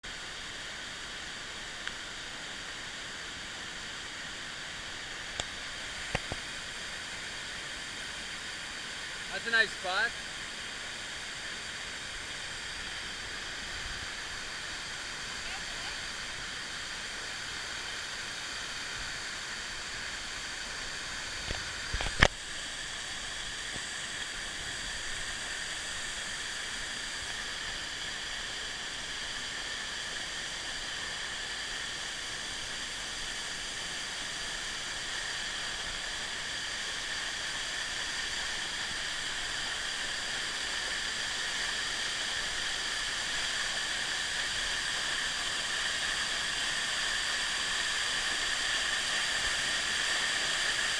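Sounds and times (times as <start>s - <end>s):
waterfall rushing: 0.3s - 50.9s.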